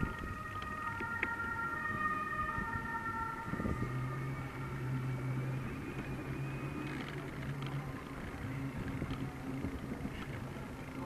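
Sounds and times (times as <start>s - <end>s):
distant siren: 0.0s - 11.0s.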